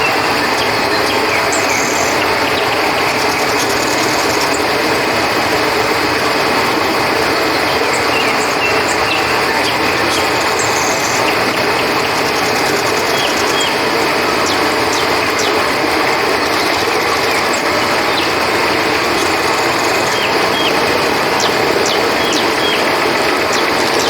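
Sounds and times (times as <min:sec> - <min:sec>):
crickets chirping: 0:00.0 - 0:24.0
river water rushing: 0:00.0 - 0:24.0.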